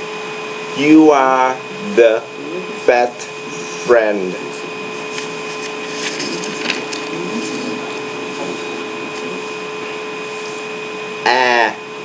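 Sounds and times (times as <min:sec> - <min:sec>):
faint constant whine: 0:00.0 - 0:12.0.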